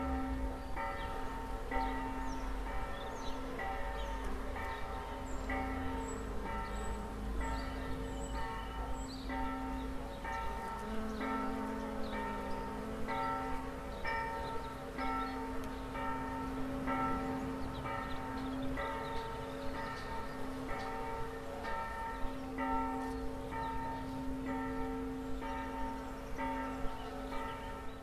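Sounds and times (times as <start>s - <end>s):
church bell tolling: 0.0s - 28.0s.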